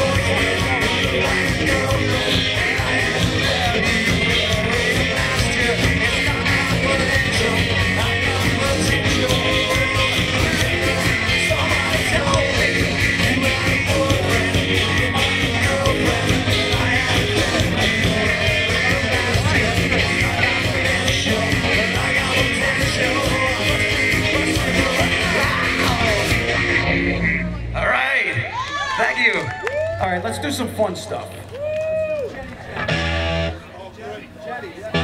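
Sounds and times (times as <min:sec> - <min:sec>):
rock music with singing: 0:00.0 - 0:29.2, 0:32.7 - 0:33.8, 0:34.8 - 0:35.0.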